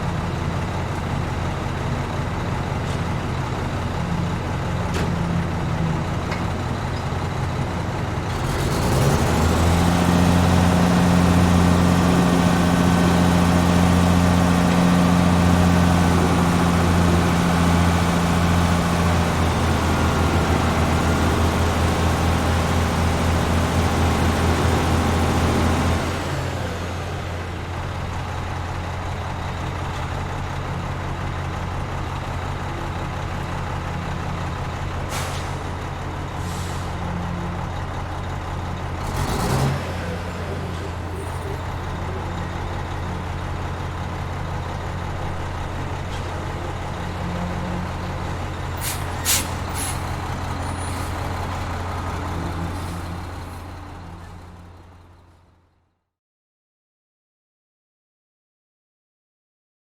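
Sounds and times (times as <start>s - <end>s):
diesel engine idling and revving: 0.0s - 55.7s.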